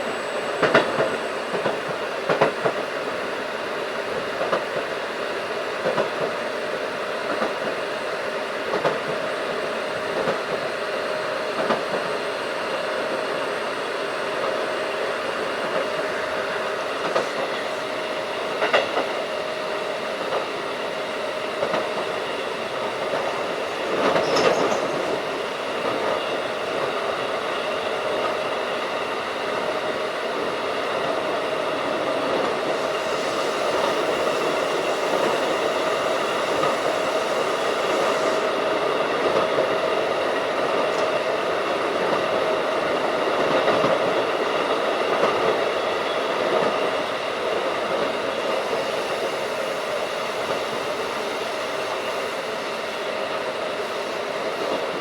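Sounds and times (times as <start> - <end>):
electric train rolling: 0.0 - 55.0
rail-joint clicks: 0.5 - 3.2, 4.0 - 4.9, 5.8 - 6.5, 7.2 - 7.8, 8.6 - 9.3, 10.0 - 10.7, 11.5 - 12.2, 14.2 - 55.0.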